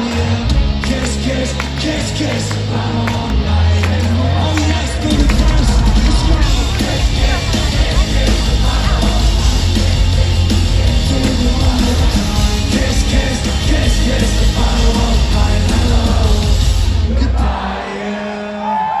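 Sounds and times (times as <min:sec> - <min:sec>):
live rock band music: 0:00.0 - 0:17.2
crowd yelling: 0:00.0 - 0:19.0.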